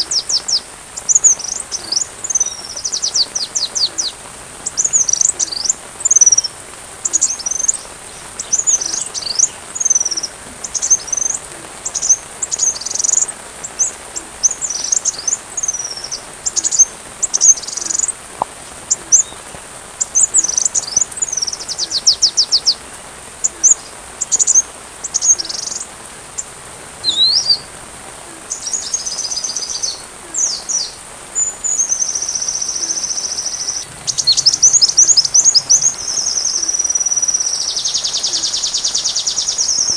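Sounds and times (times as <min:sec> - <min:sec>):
sunbird song: 0:00.0 - 0:39.9.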